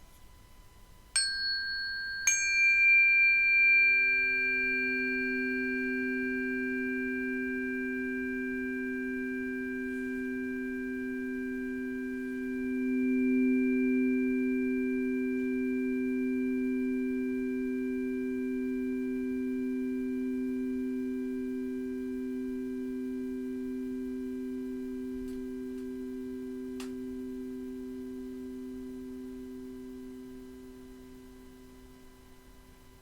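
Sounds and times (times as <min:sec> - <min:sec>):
singing bowl ringing: 0:01.2 - 0:31.7.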